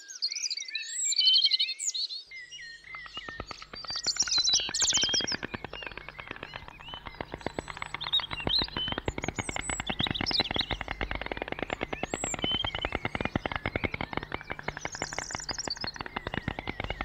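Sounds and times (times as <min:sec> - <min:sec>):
small birds chirping: 0:00.0 - 0:17.0
high bird trill: 0:02.6 - 0:17.0
rapid clicks: 0:02.8 - 0:17.0.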